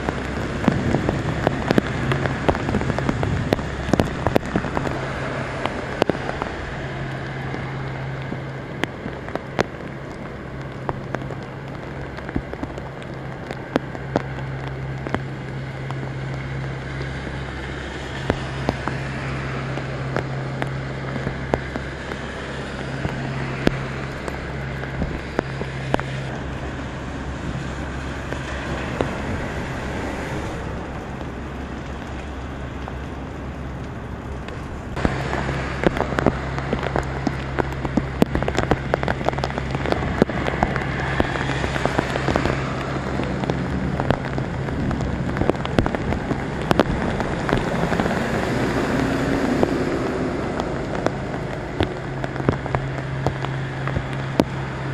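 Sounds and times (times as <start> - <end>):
bus driving through flood: 0.0 - 54.9
heavy rain on pavement and water: 0.0 - 54.9
water and wind noise: 0.0 - 54.9.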